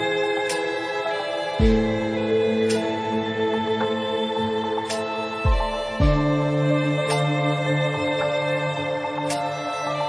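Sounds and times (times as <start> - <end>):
instrumental music with held chords: 0.0 - 10.0.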